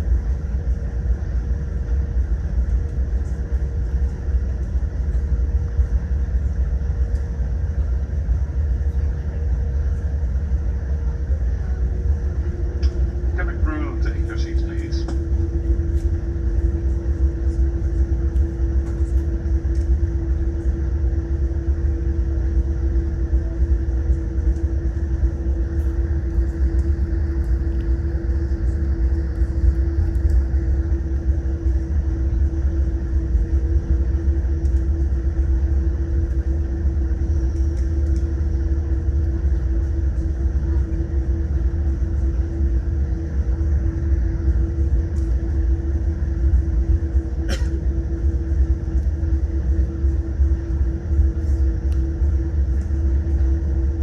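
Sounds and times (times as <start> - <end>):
aircraft cabin rumble and hum: 0.0 - 54.0.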